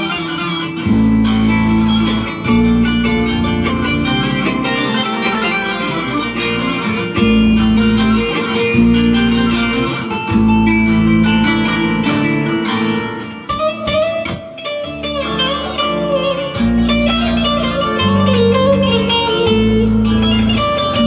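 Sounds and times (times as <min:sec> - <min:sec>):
plucked string instruments melody: 0:00.0 - 0:21.0.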